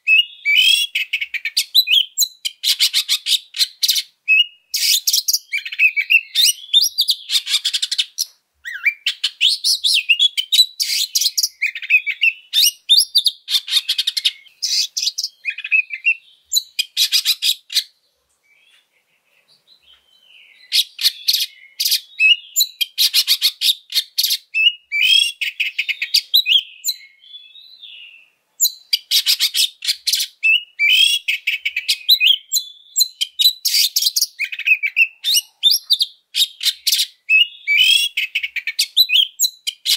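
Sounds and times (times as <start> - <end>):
bird singing harsh song: 0.0 - 39.9.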